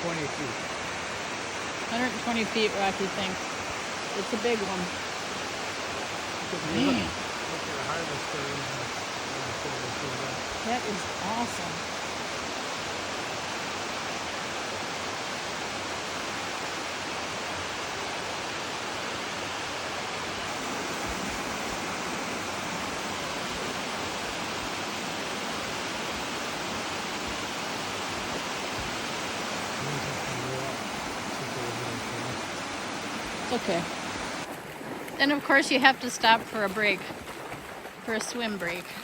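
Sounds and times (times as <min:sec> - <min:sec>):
large waterfall rushing: 0:00.0 - 0:34.5.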